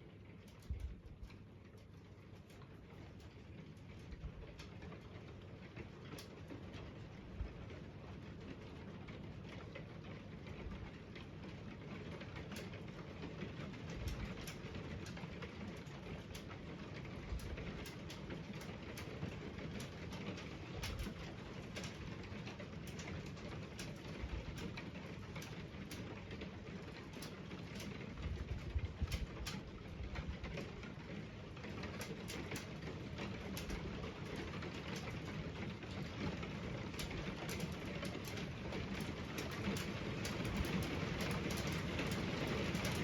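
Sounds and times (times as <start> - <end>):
rain and hail on slate roof: 0.0 - 43.0.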